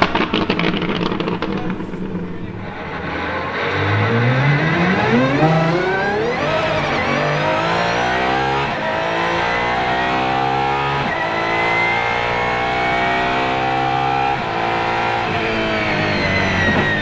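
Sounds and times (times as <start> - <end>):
car engine at full throttle: 0.0 - 17.0.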